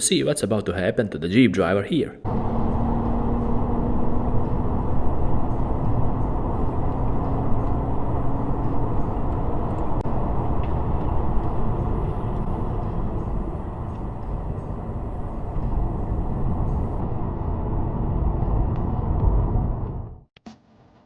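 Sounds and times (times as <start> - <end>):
car road and engine rumble: 2.2 - 20.3.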